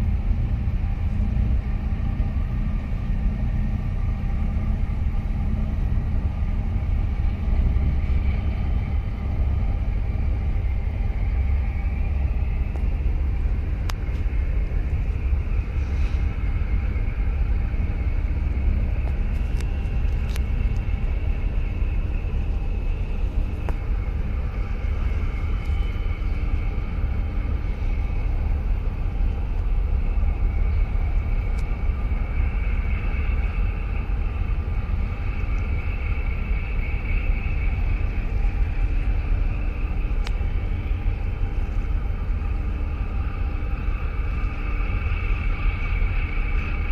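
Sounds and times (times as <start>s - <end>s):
ship engines rumbling: 0.0s - 46.9s
wind buffeting microphone: 0.0s - 46.9s.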